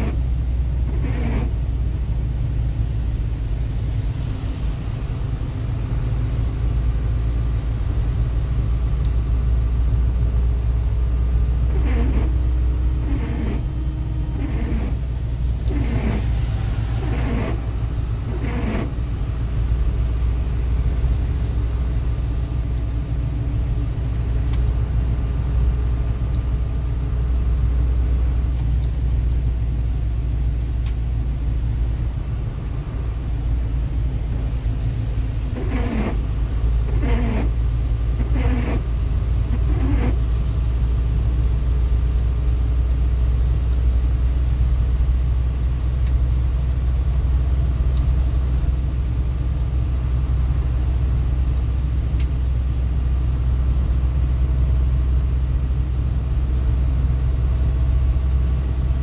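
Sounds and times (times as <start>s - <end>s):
road and engine rumble in a car: 0.0s - 59.0s
windscreen wipers swishing: 0.0s - 59.0s.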